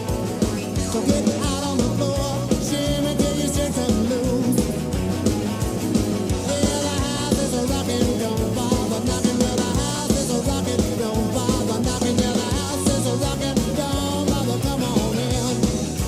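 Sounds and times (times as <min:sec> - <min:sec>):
person singing: 0:00.0 - 0:05.1, 0:06.3 - 0:16.0
rock guitar: 0:00.0 - 0:16.0
steady drum beat: 0:00.0 - 0:16.0.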